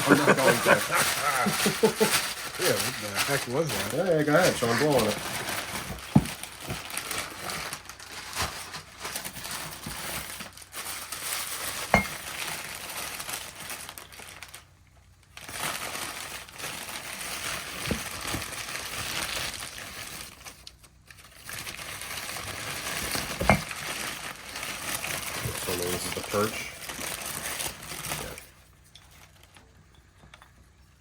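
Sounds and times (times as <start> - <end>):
paper crinkling and rustling: 0.0 - 29.9.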